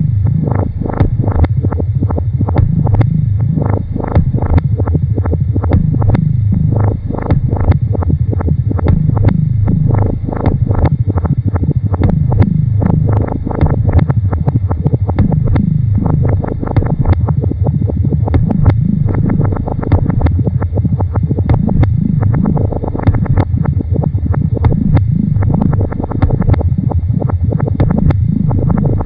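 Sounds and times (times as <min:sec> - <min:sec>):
electronic noise music rumble: 0:00.0 - 0:29.0
sharp irregular clicks and pops: 0:00.2 - 0:29.0.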